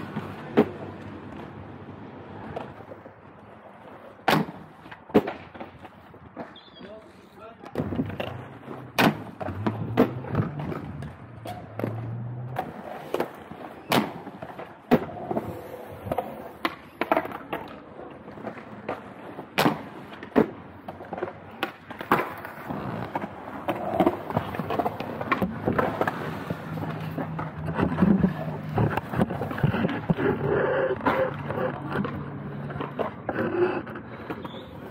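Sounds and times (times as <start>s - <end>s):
skate landings clacking: 0.0s - 1.6s, 2.4s - 34.9s
inline skates rolling on concrete: 0.0s - 34.9s.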